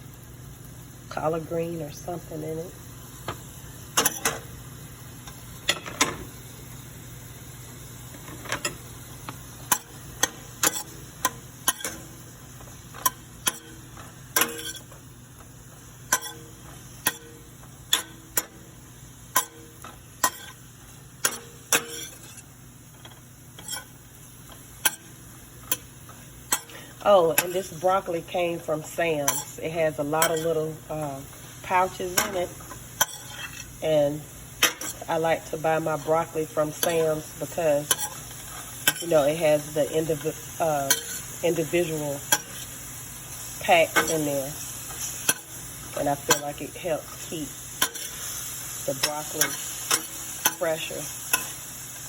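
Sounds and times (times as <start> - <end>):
faint sizzle: 0.0 - 52.0.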